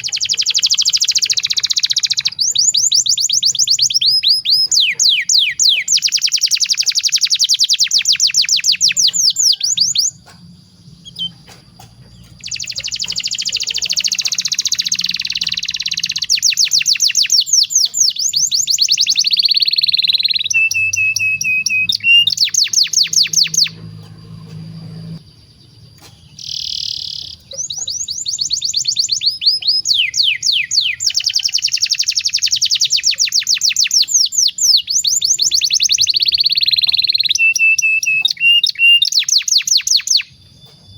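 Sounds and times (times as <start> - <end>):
canary singing rolling trills: 0.0 - 40.9.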